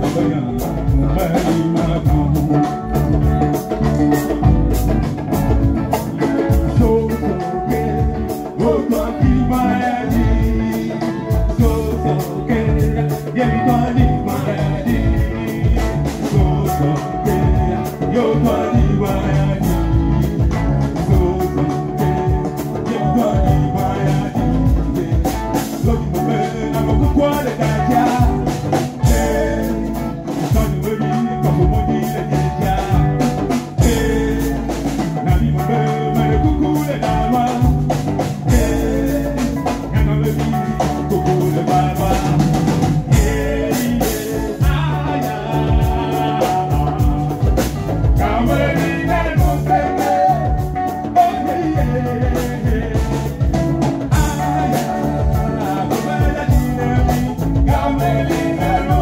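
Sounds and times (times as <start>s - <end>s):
person singing: 0.0s - 5.0s, 5.6s - 59.0s
drums: 0.0s - 59.0s
guitar: 0.0s - 59.0s.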